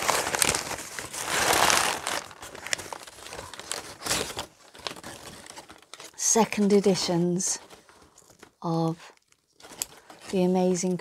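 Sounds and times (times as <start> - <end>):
packing paper rustling: 0.0 - 11.0.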